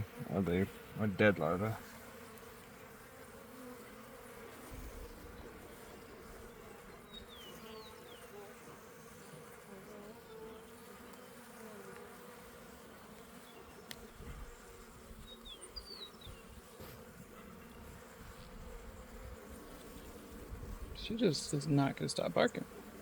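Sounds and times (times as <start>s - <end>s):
bees humming: 0.0s - 23.0s.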